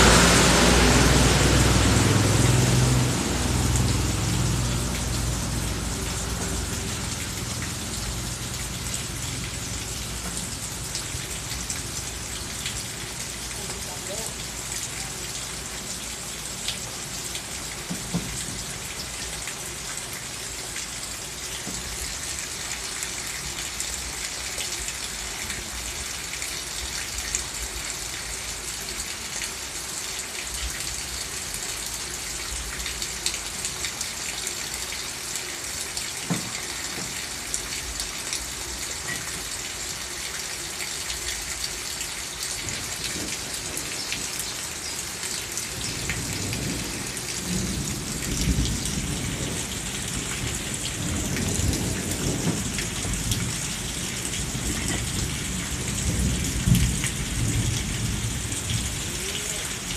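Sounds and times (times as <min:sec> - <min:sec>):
heavy rain: 0:00.0 - 0:59.9
rain drops ticking: 0:00.0 - 0:59.9.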